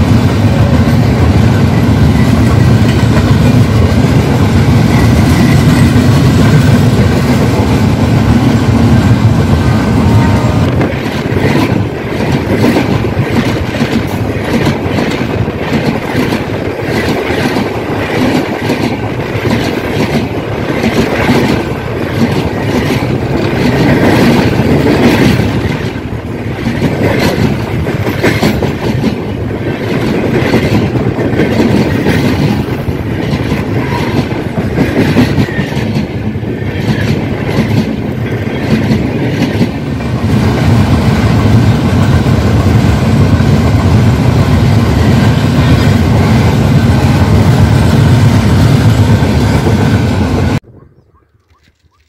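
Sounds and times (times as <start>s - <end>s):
heavy train rumble: 0.0s - 50.8s
train wheels clattering over rail joints: 0.1s - 8.9s, 10.6s - 46.6s.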